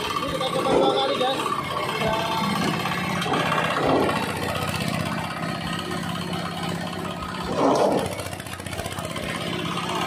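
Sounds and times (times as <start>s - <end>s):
engine-driven shredder running: 0.0s - 10.0s.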